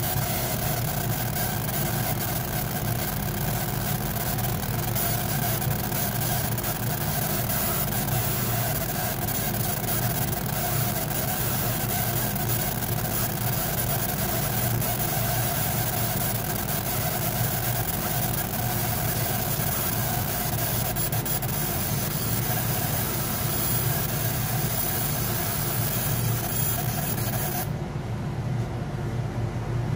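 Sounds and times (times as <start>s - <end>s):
laser engraver motor hum: 0.0s - 27.8s.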